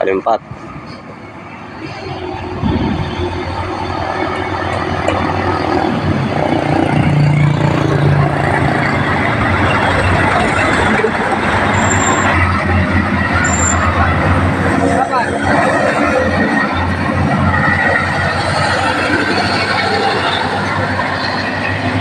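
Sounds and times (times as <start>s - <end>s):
truck diesel engine labouring: 0.0s - 22.0s.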